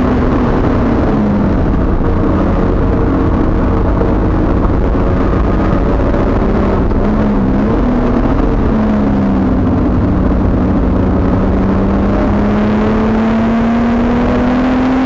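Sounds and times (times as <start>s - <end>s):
race car engine: 0.0s - 15.0s.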